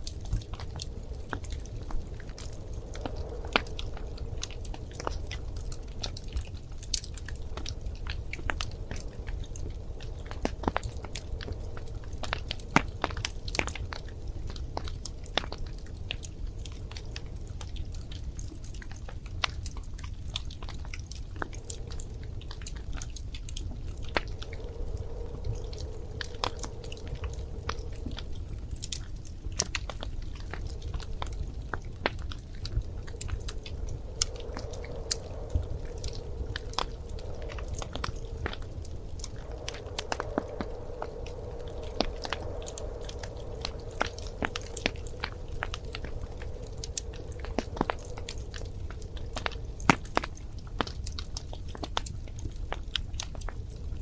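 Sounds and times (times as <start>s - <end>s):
faint steady tone: 0.0s - 54.0s
low rumble of burning fire: 0.0s - 54.0s
wood fire crackling and popping: 0.0s - 54.0s.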